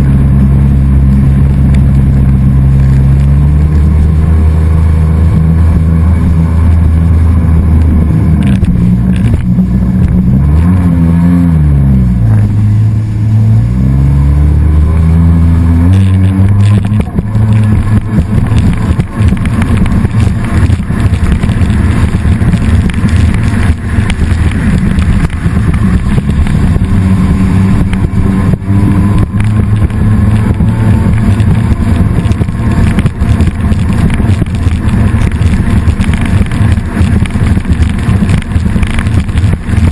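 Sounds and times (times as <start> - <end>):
engine running: 0.0 - 39.9
rough choppy buffeting: 0.0 - 39.9.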